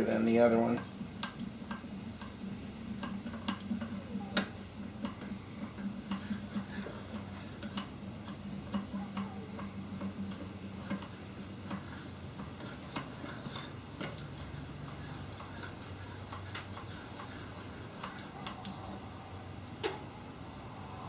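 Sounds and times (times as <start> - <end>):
low hum: 0.8 - 21.0.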